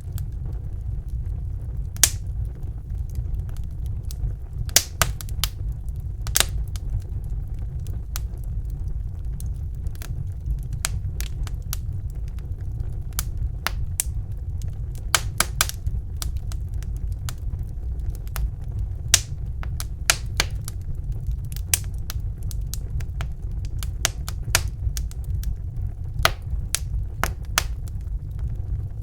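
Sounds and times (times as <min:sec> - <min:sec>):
low rumble of flames: 0:00.0 - 0:29.0
wood fire popping and snapping: 0:00.0 - 0:29.0.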